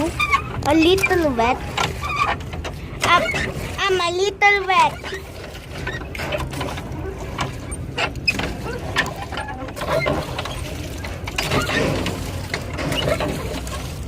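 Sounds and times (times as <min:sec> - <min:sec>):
oars knocking and clicking: 0:00.0 - 0:14.0.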